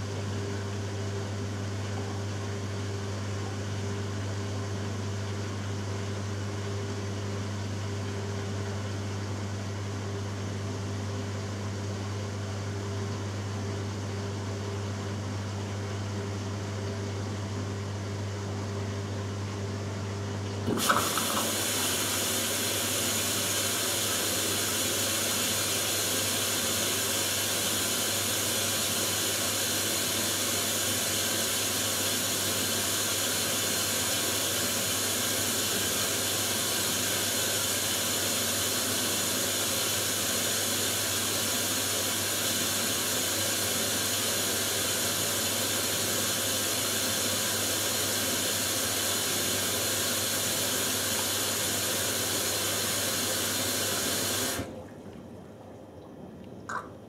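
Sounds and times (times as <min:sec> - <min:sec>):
washing machine low hum: 0:00.0 - 0:57.0.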